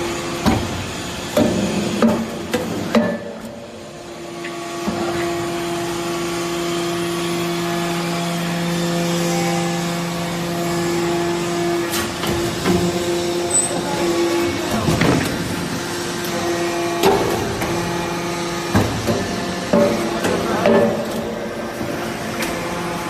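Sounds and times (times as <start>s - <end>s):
hydraulic baler humming: 0.0s - 23.0s.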